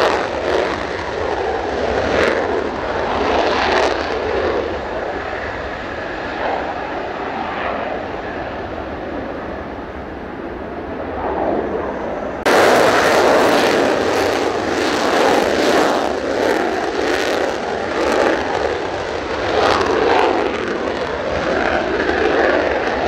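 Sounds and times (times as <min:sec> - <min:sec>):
jet engine roar with crackle: 0:00.0 - 0:23.0.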